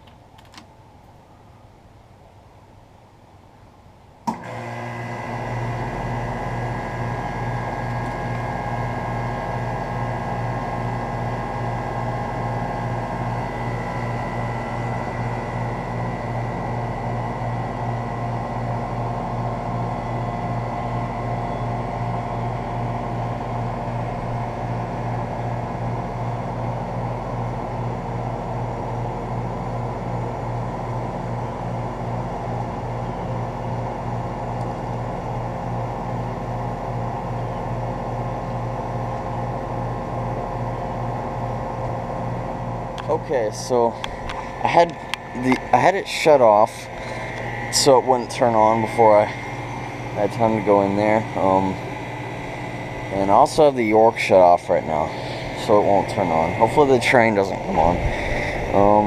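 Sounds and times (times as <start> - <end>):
air conditioner compressor hum: 0.0 - 59.0
condenser fan running: 0.0 - 59.0.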